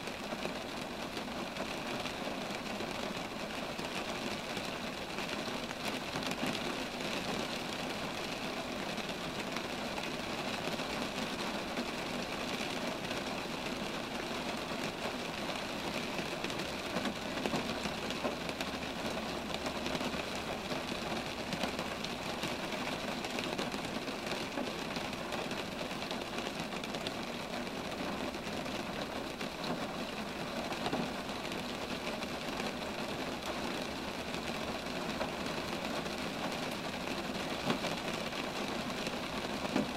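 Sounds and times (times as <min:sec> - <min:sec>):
rain pattering on trees: 0:00.0 - 0:39.9.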